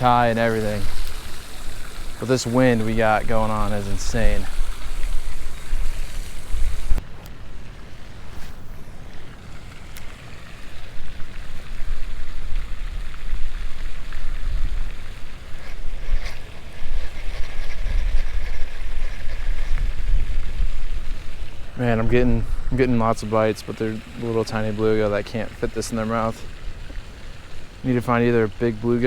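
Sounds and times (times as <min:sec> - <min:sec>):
wind buffeting microphone: 0:00.0 - 0:09.3, 0:10.6 - 0:29.0.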